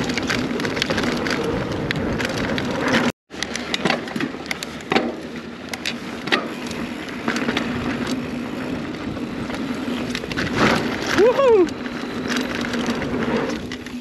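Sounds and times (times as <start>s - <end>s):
bike rattling: 0.0s - 14.0s
bike tyres rolling on dirt: 0.0s - 14.0s.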